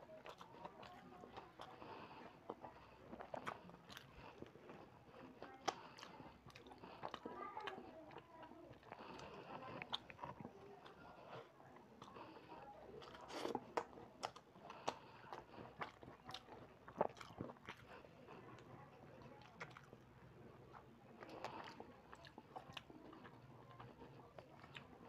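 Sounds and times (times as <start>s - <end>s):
man chewing and lip smacking: 0.2s - 18.7s, 19.4s - 25.0s.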